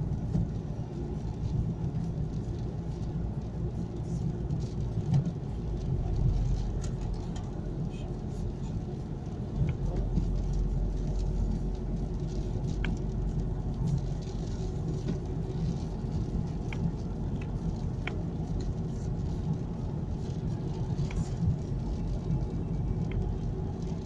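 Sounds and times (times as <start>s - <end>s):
car interior road noise: 0.0s - 24.0s.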